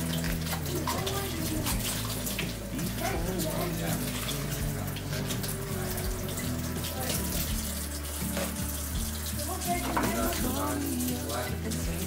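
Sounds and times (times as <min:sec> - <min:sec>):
background music: 0:00.0 - 0:12.0
tap water splashing: 0:00.0 - 0:12.0.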